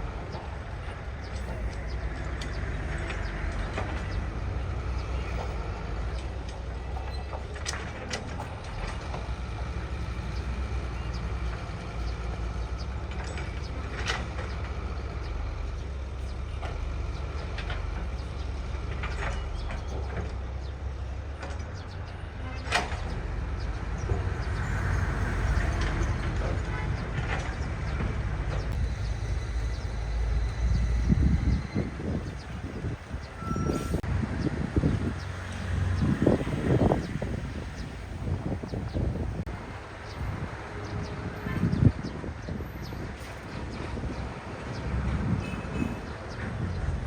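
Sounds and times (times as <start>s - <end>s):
heavy machinery engine rumble: 0.0s - 47.0s.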